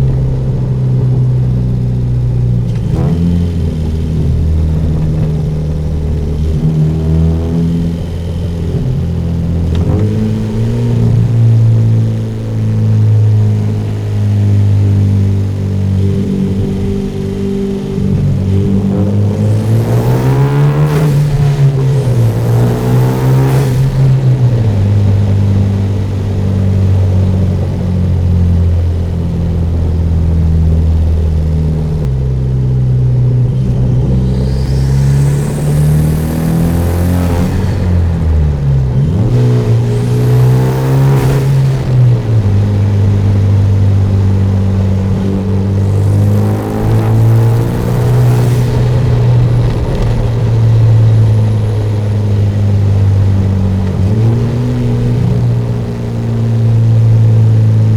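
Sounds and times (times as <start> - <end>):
car engine and exhaust droning: 0.0 - 57.9.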